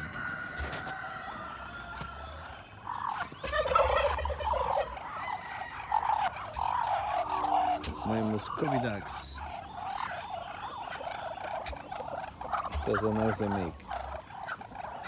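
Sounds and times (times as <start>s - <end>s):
long high turkey call: 0.0s - 15.0s
turkey gobbling: 0.0s - 15.0s.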